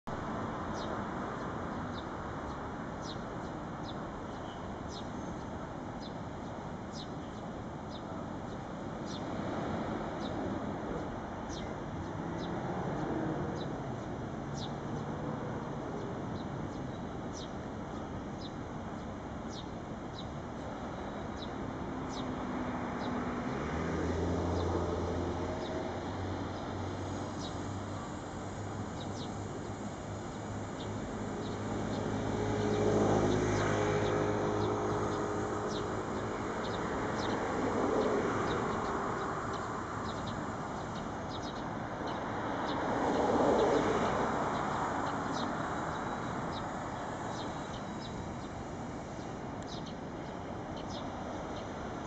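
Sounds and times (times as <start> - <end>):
outdoor background noise: 0.0 - 52.0.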